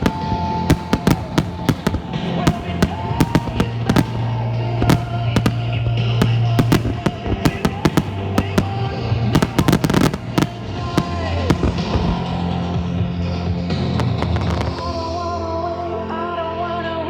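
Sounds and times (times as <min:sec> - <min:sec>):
fireworks bangs and crackles: 0:00.0 - 0:15.4
music with sustained notes: 0:00.0 - 0:17.0.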